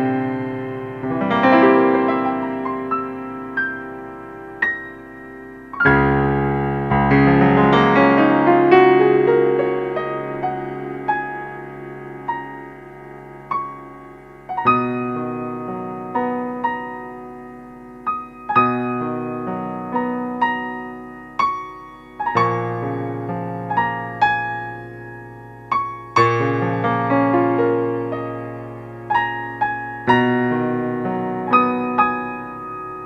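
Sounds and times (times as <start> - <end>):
gentle piano music: 0.0 - 33.0.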